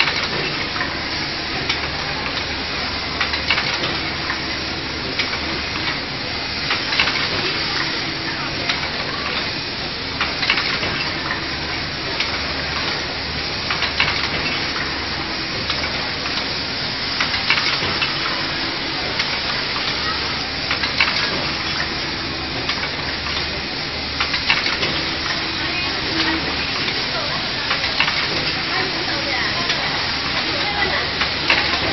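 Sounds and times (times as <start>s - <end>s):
machine hiss and hum: 0.0s - 31.9s
sharp machine clacks: 0.0s - 31.9s.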